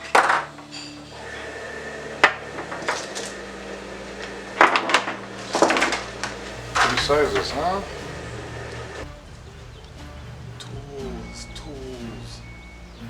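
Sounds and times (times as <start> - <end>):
steady low hum: 1.0 - 13.0.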